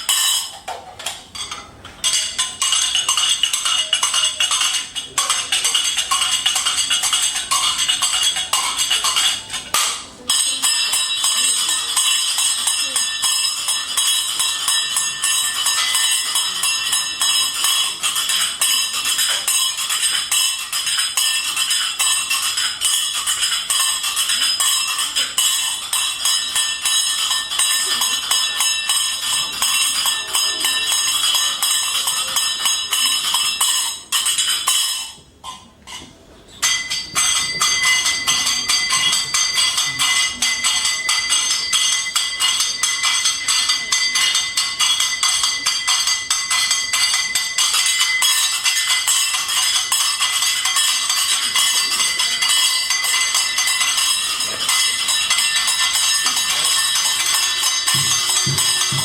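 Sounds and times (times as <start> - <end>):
fast metallic percussion: 0.0 - 59.0
steady high ringing: 0.0 - 59.0.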